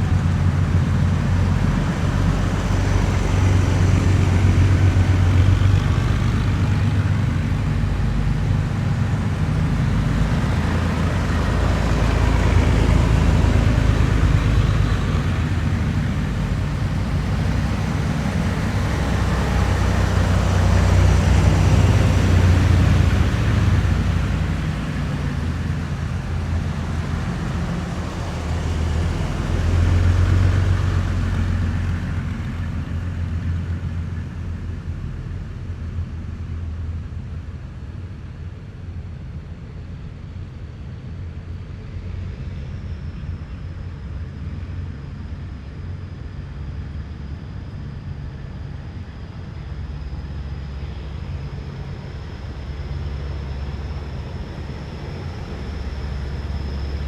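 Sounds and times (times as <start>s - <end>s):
heavy military vehicles driving past: 0.0s - 57.0s.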